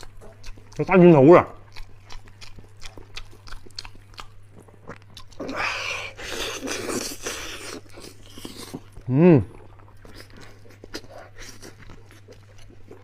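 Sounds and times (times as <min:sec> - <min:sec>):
wet chewing and biting: 0:00.0 - 0:13.0.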